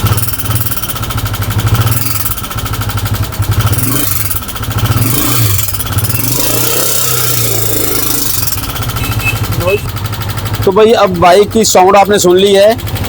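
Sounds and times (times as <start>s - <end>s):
motorcycle engine mechanical clatter: 0.0s - 13.0s.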